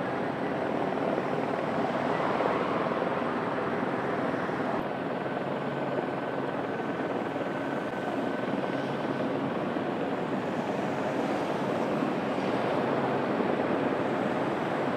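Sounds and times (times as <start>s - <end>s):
helicopter rotor and engine: 0.0s - 14.9s.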